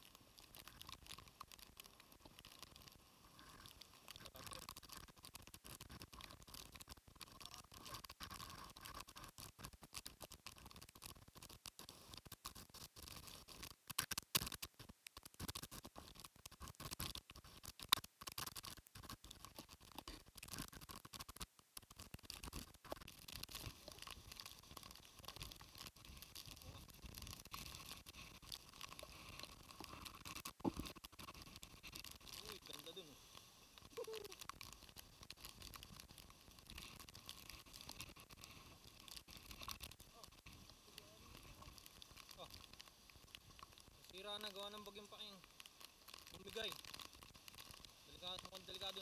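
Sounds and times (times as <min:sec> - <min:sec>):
rain and wind on microphone: 0:00.0 - 0:49.0.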